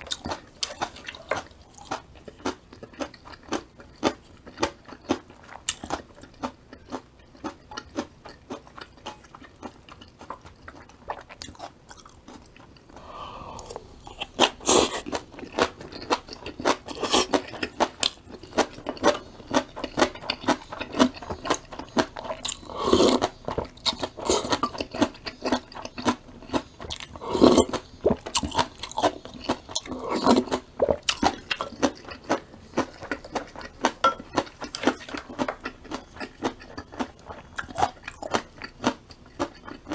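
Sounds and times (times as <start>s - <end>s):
person chewing crunchy vegetables: 0.0s - 39.9s.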